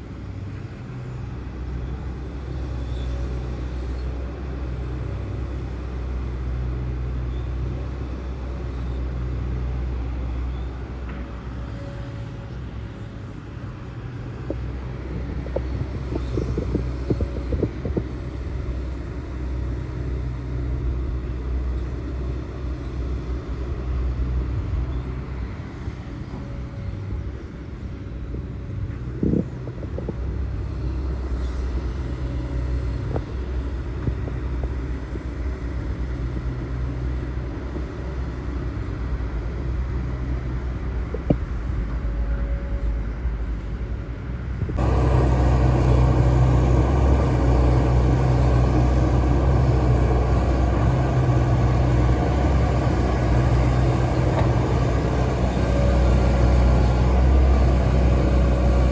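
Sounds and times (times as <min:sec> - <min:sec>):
excavator diesel engine: 0:00.0 - 0:58.9.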